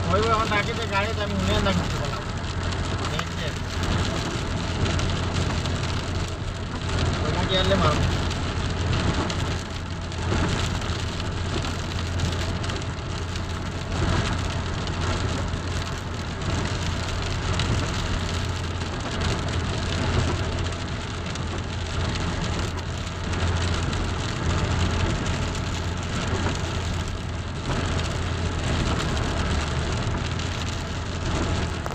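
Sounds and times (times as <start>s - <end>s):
low rumble: 0.0s - 31.9s
steady rain hiss: 0.0s - 31.9s.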